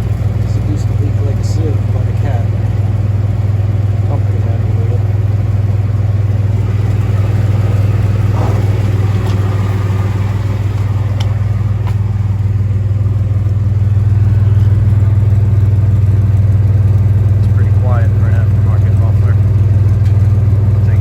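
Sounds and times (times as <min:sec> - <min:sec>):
pickup truck exhaust idling: 0:00.0 - 0:21.0.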